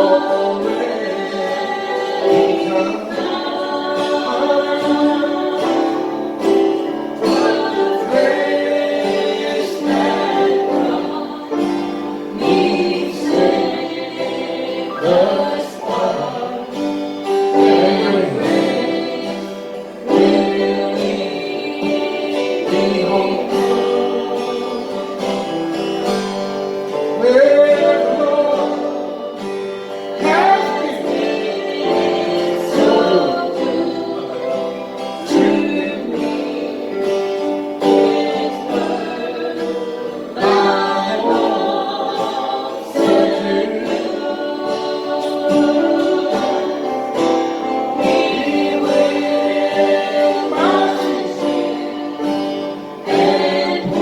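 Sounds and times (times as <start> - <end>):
group singing a slow hymn: 0.0 - 54.0
instrumental accompaniment: 0.0 - 54.0.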